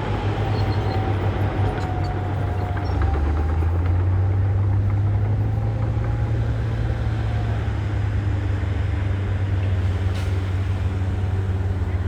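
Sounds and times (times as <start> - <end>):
heavy diesel engine droning: 0.0 - 12.0.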